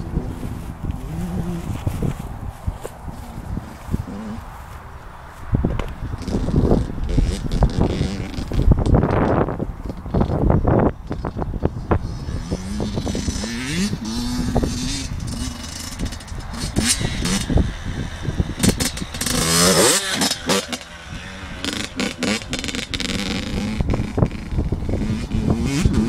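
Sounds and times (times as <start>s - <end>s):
motocross bike engine revving: 0.0s - 2.4s, 6.0s - 26.0s.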